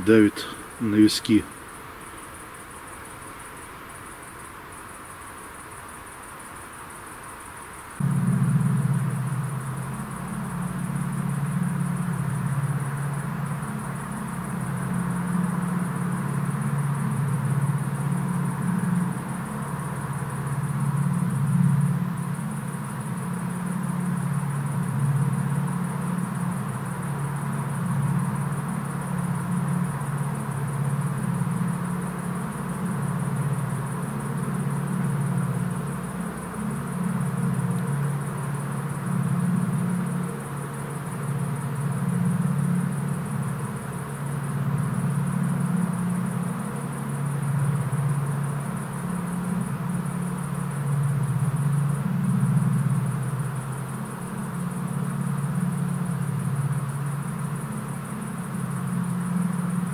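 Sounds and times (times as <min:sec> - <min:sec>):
thin high hiss: 0:00.0 - 0:59.9
low droning hum: 0:08.0 - 0:59.9.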